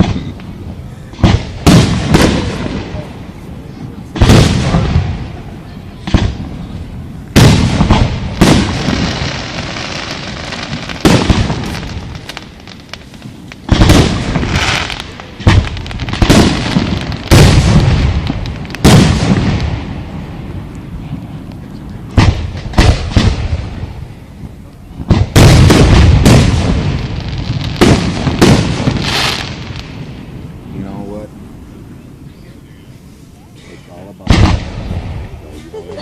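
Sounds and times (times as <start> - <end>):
fireworks booms with rumble: 0.0 - 32.7, 34.2 - 35.5.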